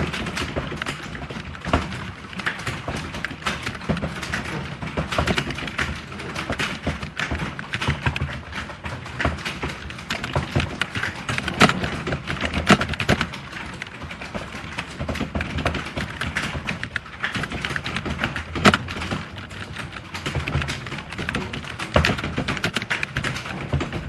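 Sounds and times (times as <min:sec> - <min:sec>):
fast typing on keyboard: 0:00.0 - 0:24.0.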